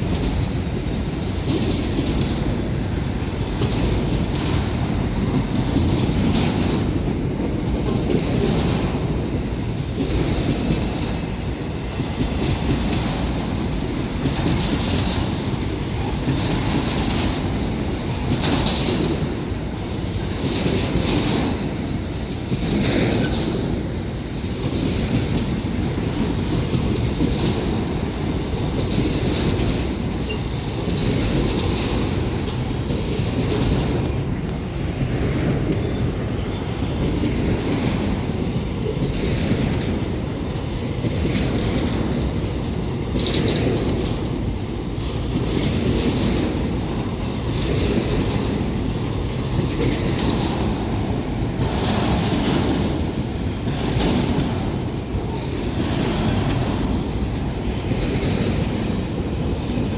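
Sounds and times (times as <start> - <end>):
freight train rumbling on rails: 0.0 - 59.9
wheels clicking over rail joints: 0.0 - 59.9.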